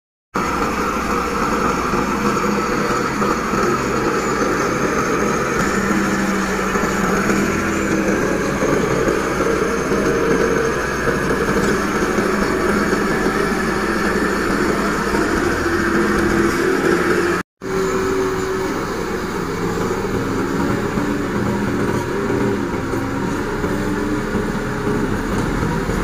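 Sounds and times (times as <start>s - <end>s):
bulldozer diesel engine under load: 0.4s - 26.0s.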